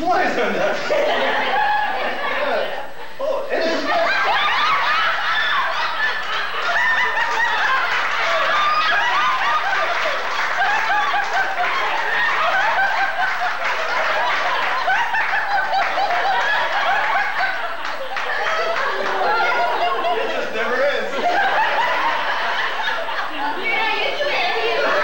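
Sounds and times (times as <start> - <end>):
crowd laughing: 0.0 - 25.0.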